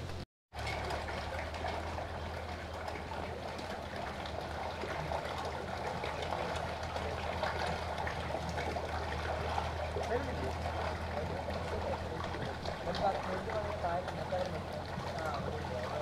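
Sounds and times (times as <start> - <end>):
low even hum: 0.0 - 16.0
water running and trickling: 0.5 - 16.0.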